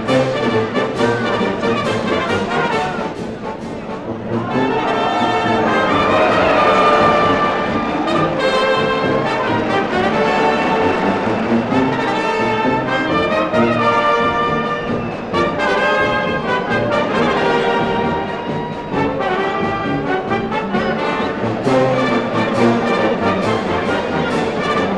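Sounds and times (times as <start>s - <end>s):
brass band playing: 0.0s - 24.9s.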